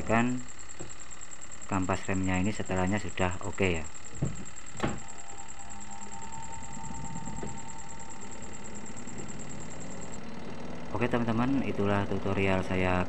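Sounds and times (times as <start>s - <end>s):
spin-dryer motor running: 0.0s - 13.0s.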